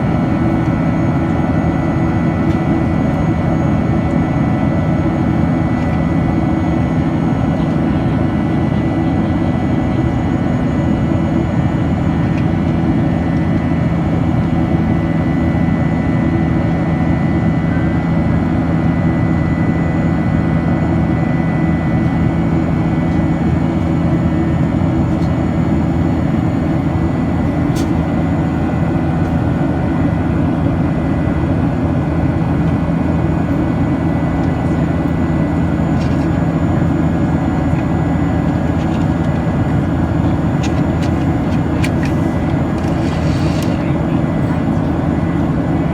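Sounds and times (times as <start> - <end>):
jet engine roar in flight: 0.0 - 45.9.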